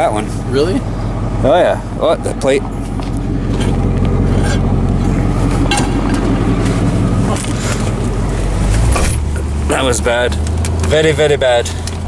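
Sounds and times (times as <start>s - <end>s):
truck engine rumble in cab: 0.0s - 12.0s.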